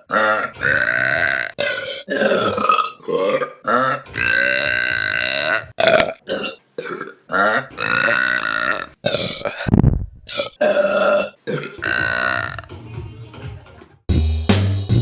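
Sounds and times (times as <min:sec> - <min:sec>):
woman burping loudly: 0:00.0 - 0:12.6.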